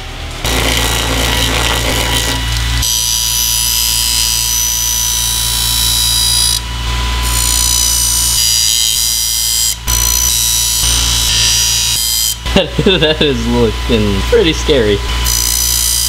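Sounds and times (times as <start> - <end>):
bench grinder whining: 0.0 - 16.0.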